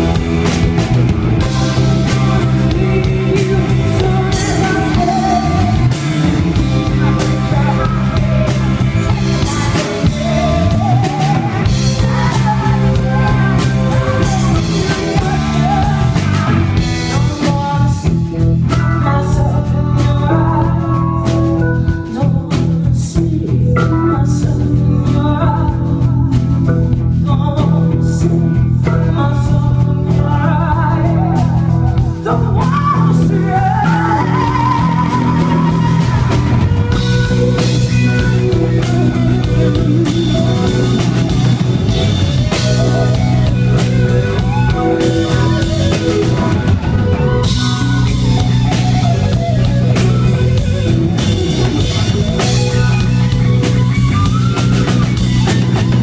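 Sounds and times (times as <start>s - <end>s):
drums and cymbals: 0.0s - 27.8s, 31.0s - 56.0s
woman singing: 0.0s - 50.4s
bass guitar: 0.0s - 56.0s
electric guitar: 0.0s - 56.0s.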